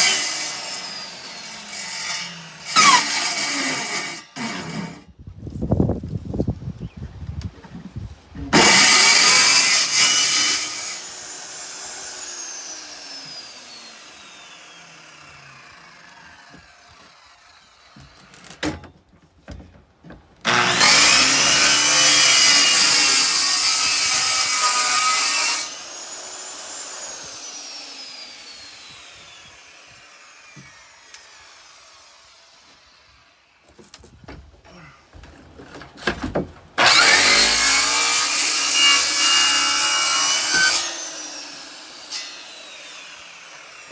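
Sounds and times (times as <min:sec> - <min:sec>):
power tool cutting: 0:00.0 - 0:05.0, 0:08.5 - 0:18.6, 0:20.5 - 0:33.6, 0:36.8 - 0:43.9.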